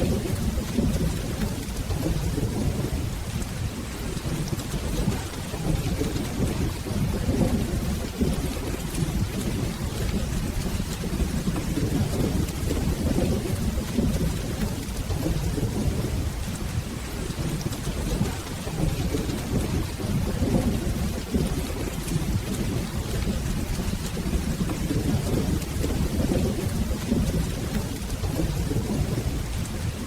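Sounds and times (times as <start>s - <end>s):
rolling thunder: 0.0s - 30.0s
steady rain: 0.0s - 30.0s.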